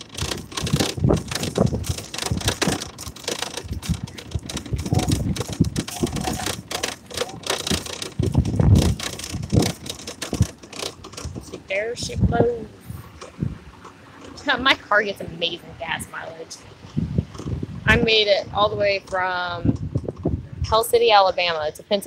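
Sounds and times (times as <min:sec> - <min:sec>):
shopping cart rattling on asphalt: 0:00.0 - 0:16.5, 0:17.4 - 0:22.0.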